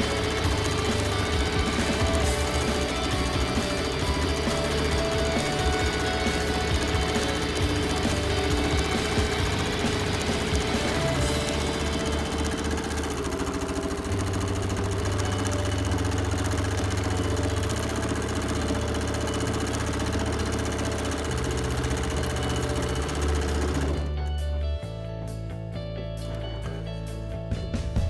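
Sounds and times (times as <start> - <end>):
quilting machine stitching: 0.0 - 24.1
motor hum: 0.0 - 24.3.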